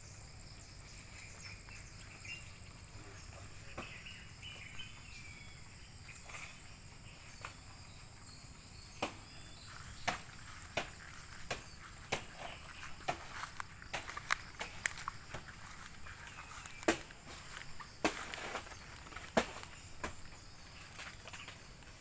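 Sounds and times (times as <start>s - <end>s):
insect drone: 0.0s - 22.0s.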